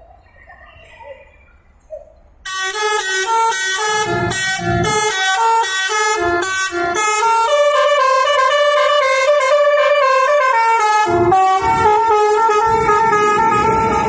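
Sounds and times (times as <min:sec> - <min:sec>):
multi-trumpet air horn tune: 0:02.5 - 0:14.0.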